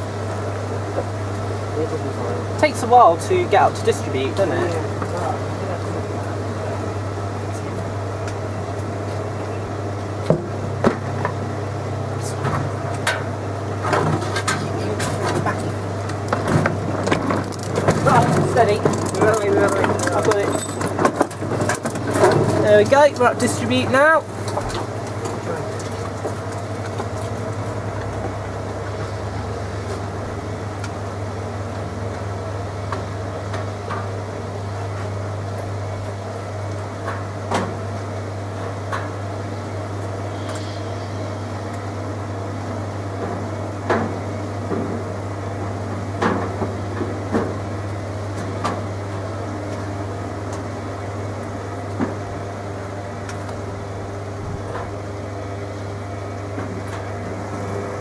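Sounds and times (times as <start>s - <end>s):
drain pump humming: 0.0s - 58.0s.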